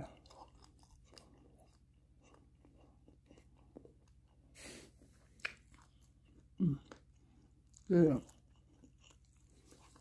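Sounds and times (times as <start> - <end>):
faint chewing with mouth clicks: 0.0 - 10.0.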